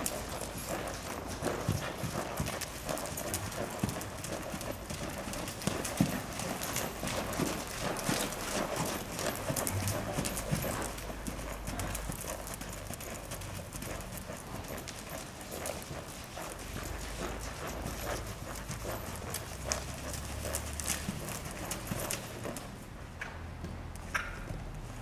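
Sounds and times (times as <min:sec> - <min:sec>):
hoofbeats on sand: 0:00.0 - 0:22.8.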